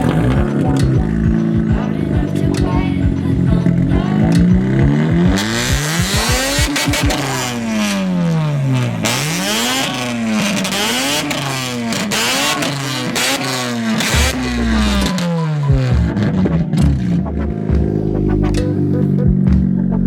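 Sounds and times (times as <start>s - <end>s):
exhaust crackles: 0.0s - 20.0s
rotary engine revving: 0.0s - 20.0s.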